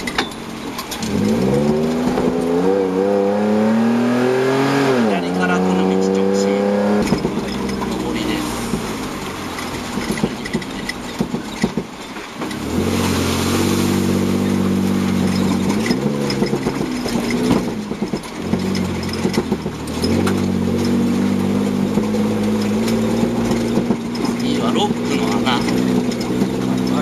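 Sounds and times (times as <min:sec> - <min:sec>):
car body knocks and rattles: 0:00.0 - 0:02.7, 0:06.9 - 0:13.1, 0:13.9 - 0:27.0
car engine revving: 0:00.0 - 0:27.0.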